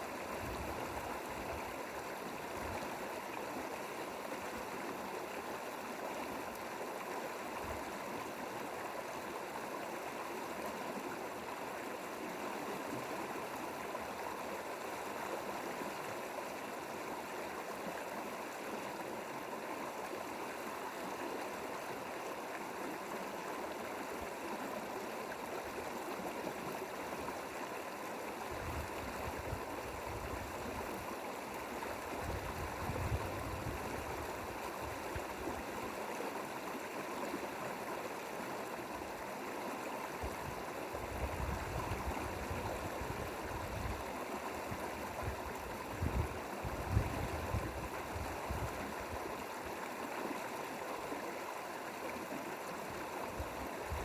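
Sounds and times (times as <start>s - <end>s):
stream rushing water: 0.0s - 54.0s.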